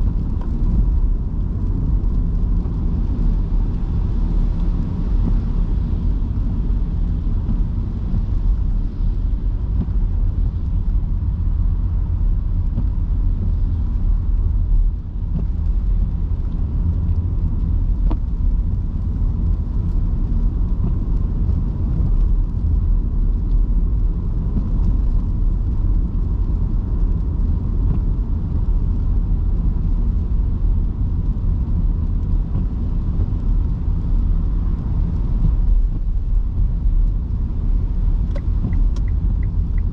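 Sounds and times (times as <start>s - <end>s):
tyres rumbling on wet road: 0.0s - 39.9s.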